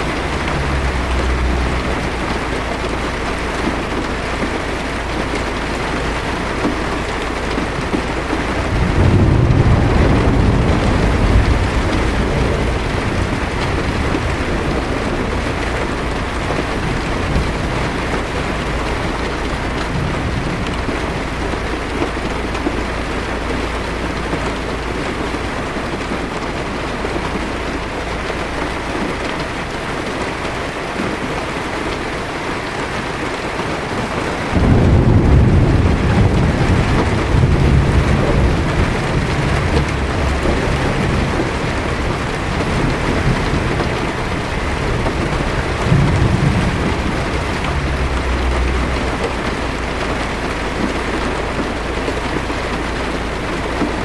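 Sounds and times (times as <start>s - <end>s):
deep thunder rumble: 0.0s - 32.2s, 32.9s - 54.0s
heavy rain on windshield: 0.0s - 54.0s.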